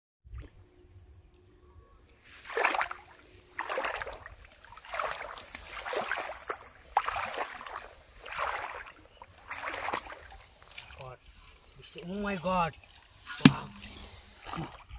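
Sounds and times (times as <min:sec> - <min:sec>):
shallow water splashing: 0:02.2 - 0:14.9.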